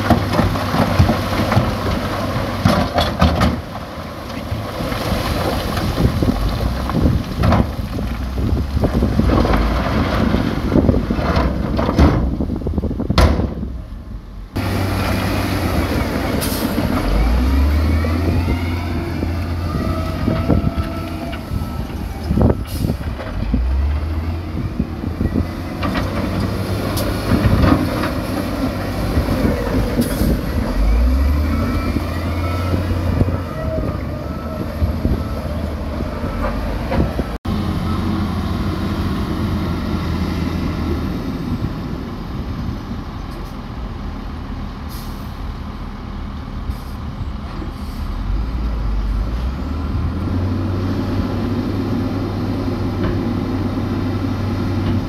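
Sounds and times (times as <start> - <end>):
deep diesel engine rumble: 0.0 - 55.0.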